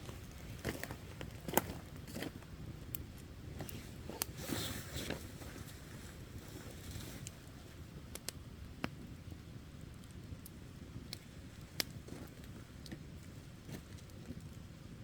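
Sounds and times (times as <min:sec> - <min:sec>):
campfire crackling and popping: 0:00.0 - 0:15.0
low rumble of flames: 0:00.0 - 0:15.0.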